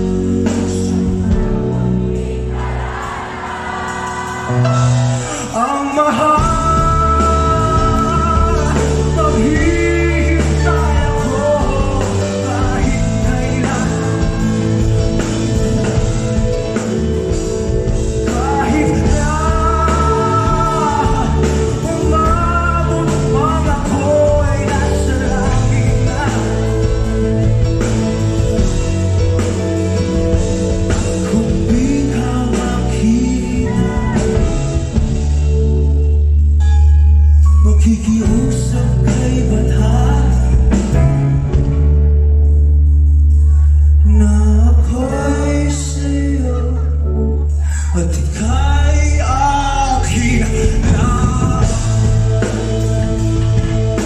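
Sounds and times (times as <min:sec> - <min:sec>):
lead vocalist singing: 0:00.0 - 0:35.8, 0:37.6 - 0:41.8, 0:43.3 - 0:54.0
bass line: 0:00.0 - 0:54.0
live band music: 0:00.0 - 0:54.0.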